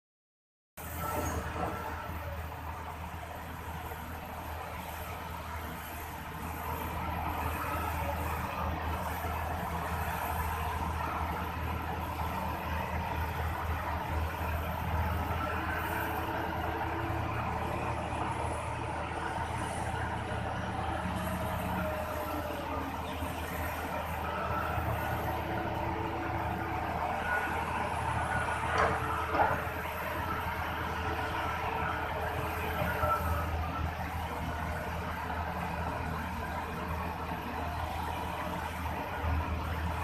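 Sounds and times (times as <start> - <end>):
diesel engines running: 0.8 - 40.0.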